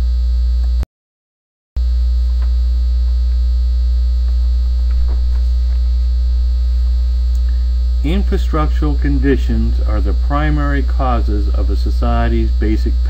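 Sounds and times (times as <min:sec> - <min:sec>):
electrical mains hum: 0:01.8 - 0:13.0.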